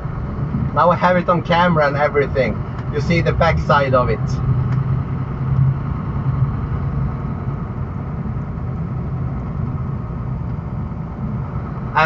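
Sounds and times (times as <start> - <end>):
diesel truck engine drone: 0.0 - 12.0
road noise: 0.0 - 12.0.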